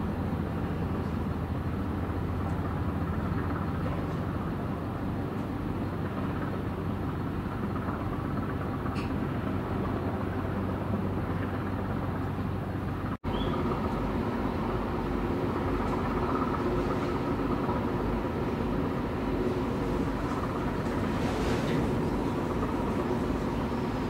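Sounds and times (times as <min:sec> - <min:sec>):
tugboat diesel engine drone: 0:00.0 - 0:24.0.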